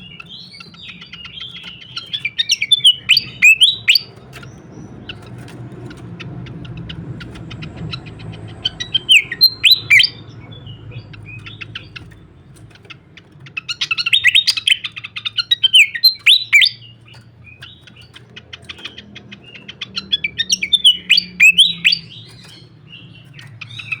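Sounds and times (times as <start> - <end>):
songbird chirping and whistling: 0.0 - 24.0.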